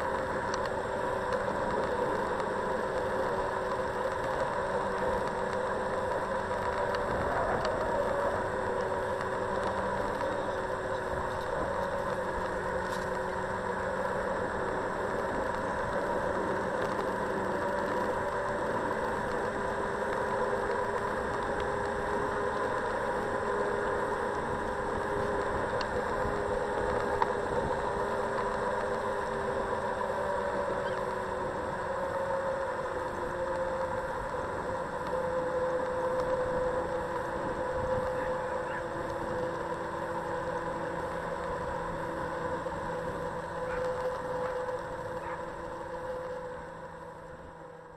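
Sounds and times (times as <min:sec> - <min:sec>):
electric motor whine: 0:00.0 - 0:47.9
ride noise and rattle: 0:00.0 - 0:47.9.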